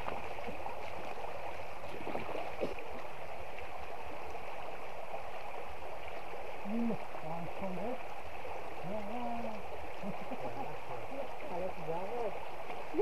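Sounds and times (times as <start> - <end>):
stream rippling over stones: 0.0 - 13.0.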